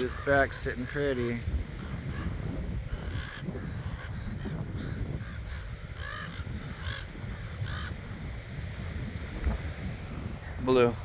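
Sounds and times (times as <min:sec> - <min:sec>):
crows cawing in alarm: 0:00.0 - 0:09.2.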